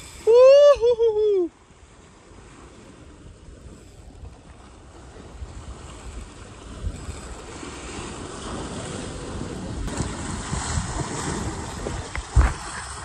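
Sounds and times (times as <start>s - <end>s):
surf washing against rocks: 0.0s - 13.0s
wind buffeting microphone: 0.8s - 13.0s.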